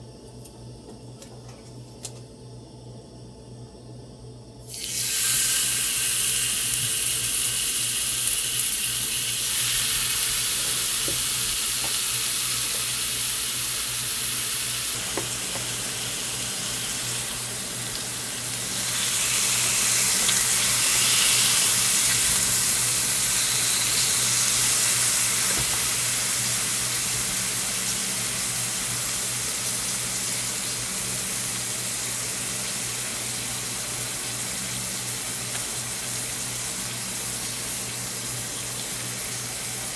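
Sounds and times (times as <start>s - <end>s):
meat sizzling on a griddle: 4.7s - 39.9s.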